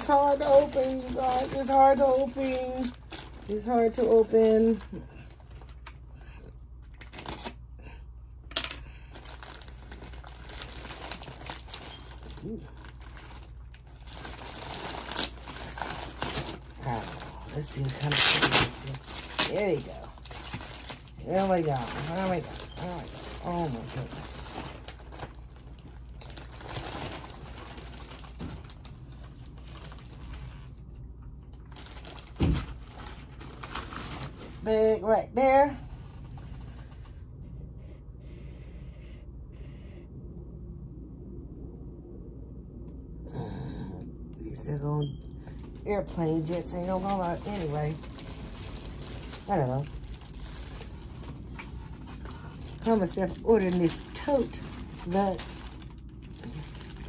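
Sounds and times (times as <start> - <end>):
packaging crinkling and rustling: 0.0 - 7.7, 8.5 - 35.0, 35.6 - 37.2, 45.4 - 57.0.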